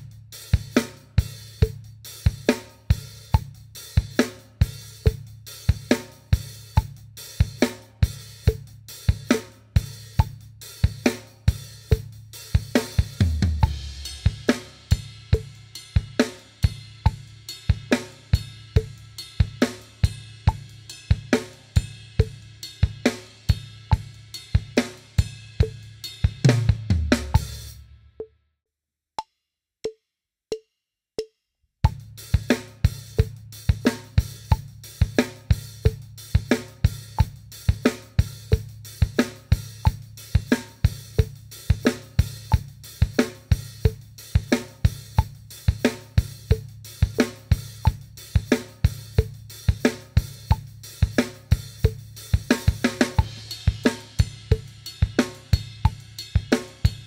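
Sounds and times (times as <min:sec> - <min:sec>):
drum kit playing a groove: 0:00.0 - 0:27.9, 0:31.8 - 0:57.0.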